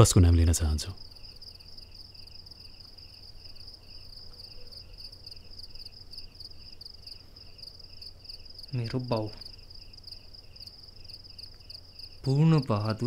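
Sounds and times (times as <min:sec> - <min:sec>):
crickets trilling: 0:00.0 - 0:13.0
lower insect chirp: 0:00.0 - 0:13.0.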